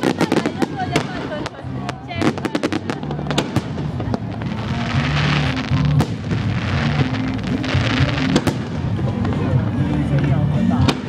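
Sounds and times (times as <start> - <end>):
fireworks bangs: 0.0 - 11.0
fireworks bursting and crackling: 0.0 - 11.0
music from loudspeakers: 0.0 - 11.0.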